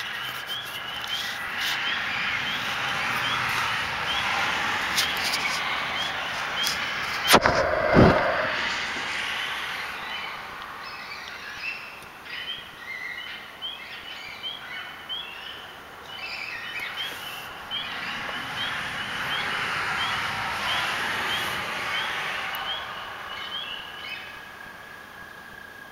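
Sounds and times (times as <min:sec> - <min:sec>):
outdoor noise haze: 0:00.0 - 0:25.9.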